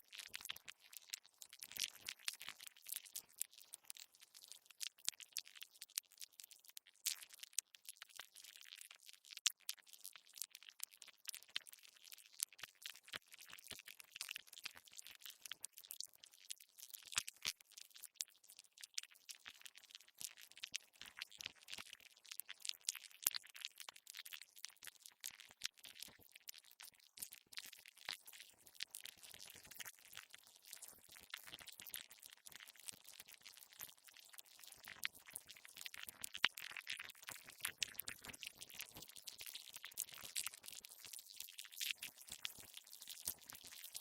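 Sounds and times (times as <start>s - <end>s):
high-pitched crackles and clicks: 0.0s - 44.0s.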